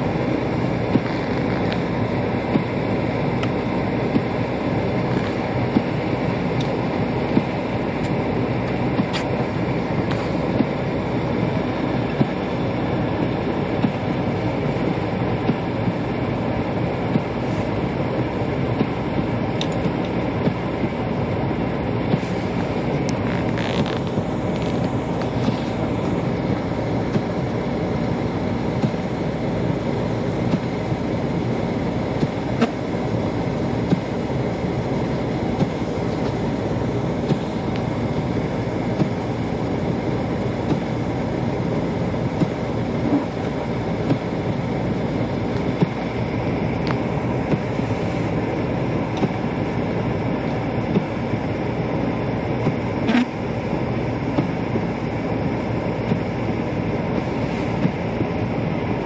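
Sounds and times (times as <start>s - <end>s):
car road rumble from inside: 0.0s - 59.0s.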